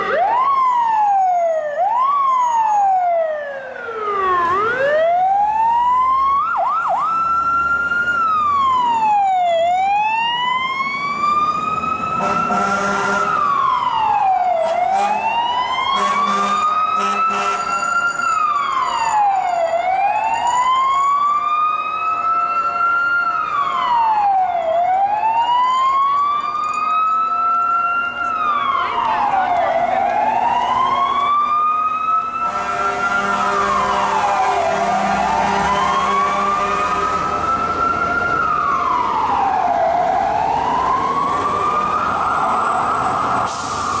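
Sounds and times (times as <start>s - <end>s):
fire truck siren wailing: 0.0s - 44.0s.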